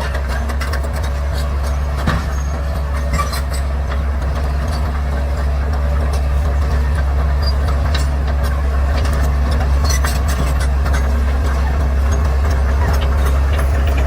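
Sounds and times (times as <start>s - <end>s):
bulldozer diesel engine humming: 0.0s - 14.0s.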